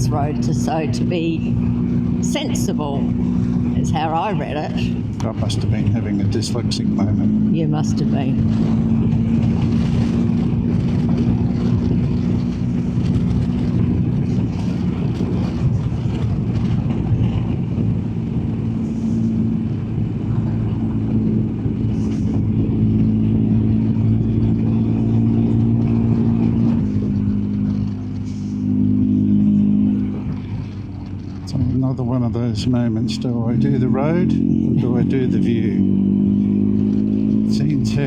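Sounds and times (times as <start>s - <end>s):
motorcycle engine running: 0.0s - 38.0s
wind rumble: 0.0s - 38.0s.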